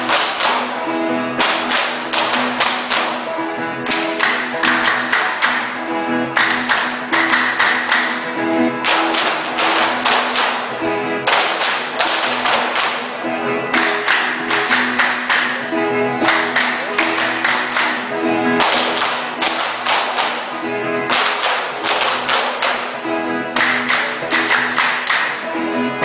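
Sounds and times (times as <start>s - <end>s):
strummed guitar ensemble: 0.0s - 26.0s.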